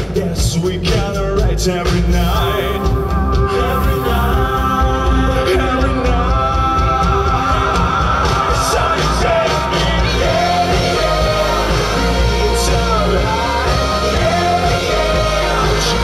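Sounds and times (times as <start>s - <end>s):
pop-rock song with singing: 0.0s - 16.0s.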